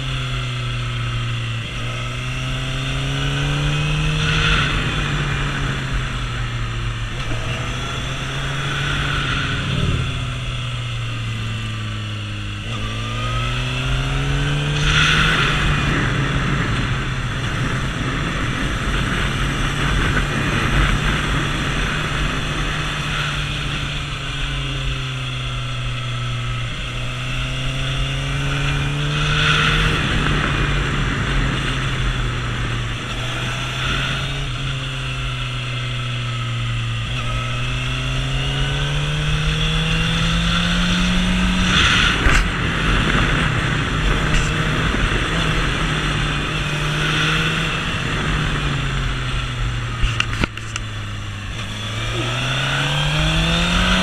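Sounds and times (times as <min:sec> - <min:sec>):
wind noise: 0:00.0 - 0:36.0, 0:36.6 - 0:54.0
motorcycle engine revving: 0:00.0 - 0:54.0.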